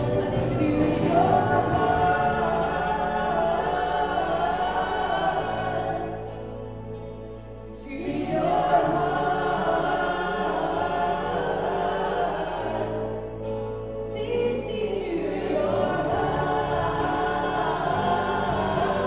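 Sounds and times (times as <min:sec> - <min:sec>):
singers holding long notes: 0:00.0 - 0:19.0
worship band playing: 0:00.0 - 0:19.0.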